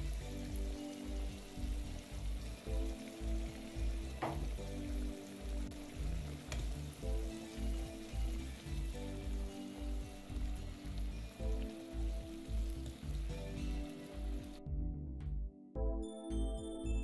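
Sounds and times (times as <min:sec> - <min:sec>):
eggs sizzling in a frying pan: 0:00.0 - 0:14.7
background music with steady beat: 0:00.0 - 0:17.0.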